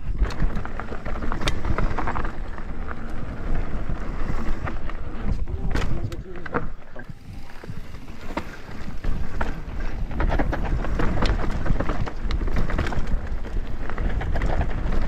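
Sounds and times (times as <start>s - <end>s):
bike rattling clicks and knocks: 0.0s - 15.0s
mountain bike riding on rough trail: 0.0s - 15.0s
wind buffeting microphone: 0.0s - 15.0s.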